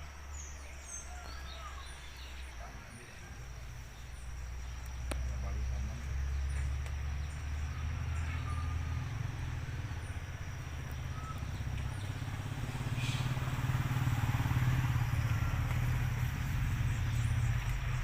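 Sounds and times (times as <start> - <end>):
motor vehicle engine rumble passing: 0.1 - 18.0.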